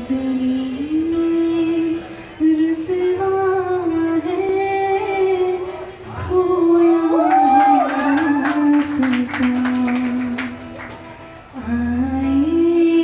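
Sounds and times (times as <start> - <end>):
woman singing into a microphone: 0.0 - 10.8, 11.4 - 13.0
acoustic guitar: 0.0 - 13.0.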